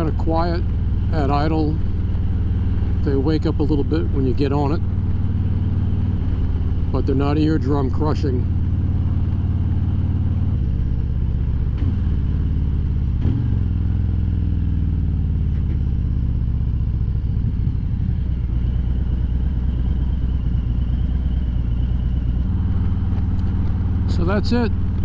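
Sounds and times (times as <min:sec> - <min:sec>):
motorcycle exhaust while riding: 0:00.0 - 0:25.0.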